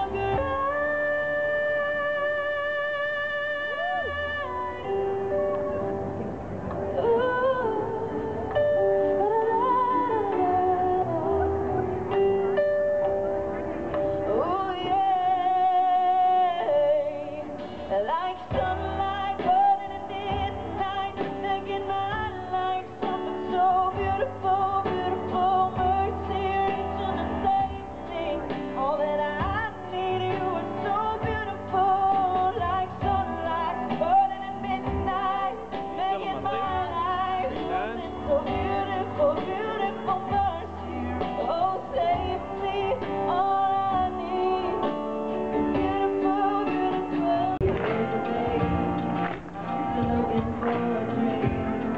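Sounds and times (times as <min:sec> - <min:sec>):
amplified instrumental accompaniment: 0:00.0 - 0:51.9
woman singing into microphone: 0:00.0 - 0:51.9.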